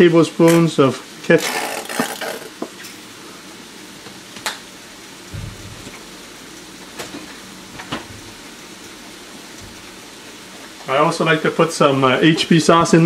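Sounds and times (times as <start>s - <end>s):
sauce simmering in a pan: 2.5s - 13.0s.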